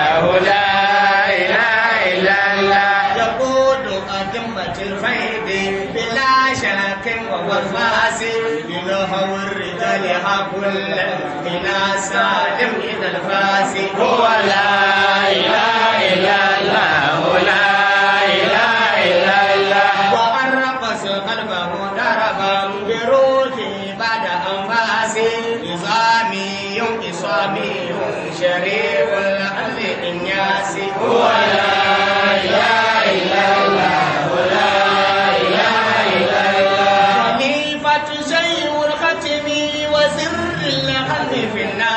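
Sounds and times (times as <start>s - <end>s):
men chanting into microphones: 0.0s - 41.9s.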